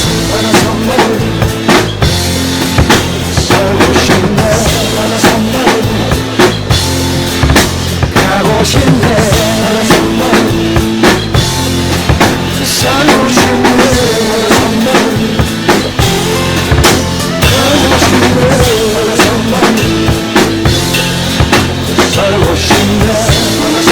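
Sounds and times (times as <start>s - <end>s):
drum kit beat: 0.0s - 23.9s
melodic lead line: 0.0s - 23.9s.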